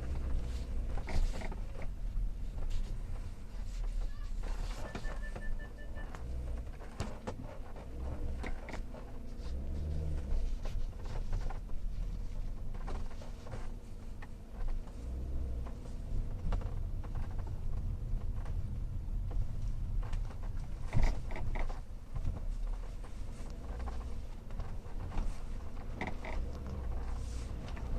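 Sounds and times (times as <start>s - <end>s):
creaks and squeaks: 0.0s - 27.9s
road rumble: 0.0s - 27.9s.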